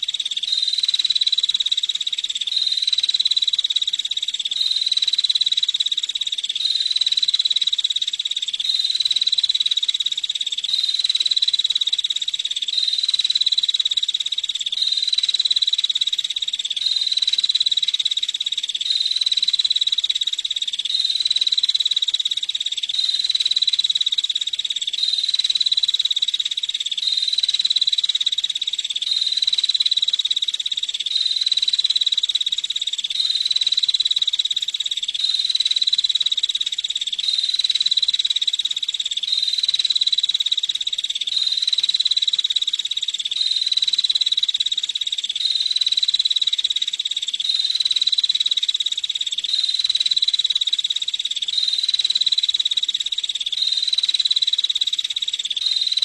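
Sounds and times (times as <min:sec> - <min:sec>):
bird ticking trill: 0:00.0 - 0:56.0.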